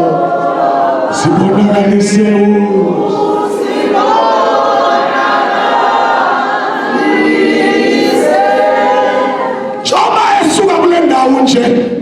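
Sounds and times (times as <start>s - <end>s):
group singing a cappella: 0.0s - 10.0s.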